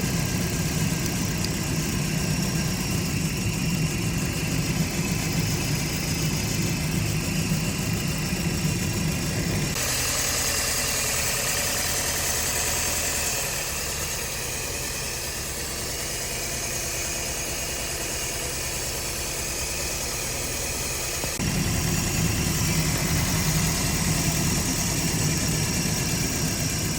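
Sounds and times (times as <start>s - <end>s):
car engine idling with misfire: 0.0s - 26.9s.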